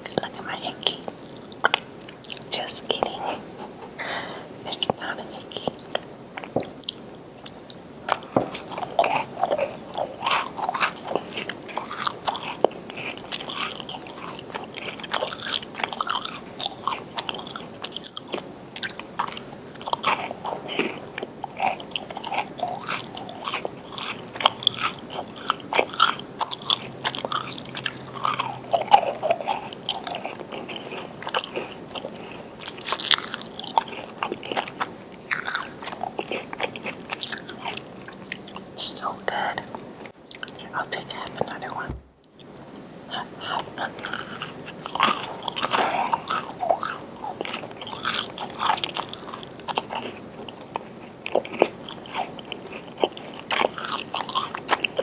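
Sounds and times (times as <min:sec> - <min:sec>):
person chewing crunchy cookies: 0:00.0 - 0:55.0.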